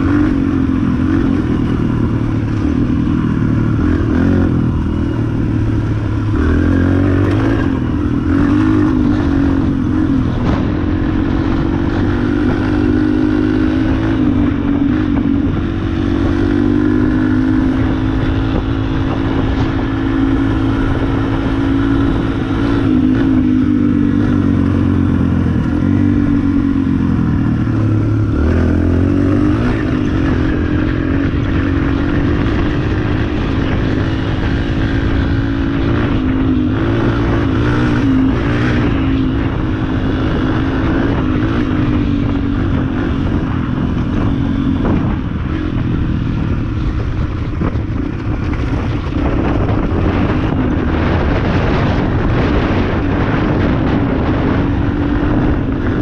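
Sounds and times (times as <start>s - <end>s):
dirt bike engine running: 0.0s - 56.0s
wind rush on microphone: 0.0s - 56.0s.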